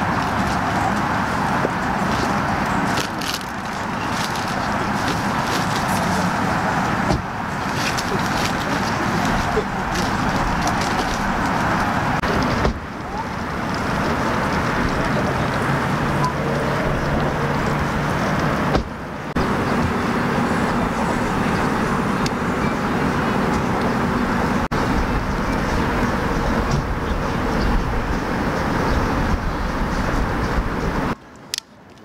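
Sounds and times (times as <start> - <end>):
low outdoor rumble: 0.0 - 31.9.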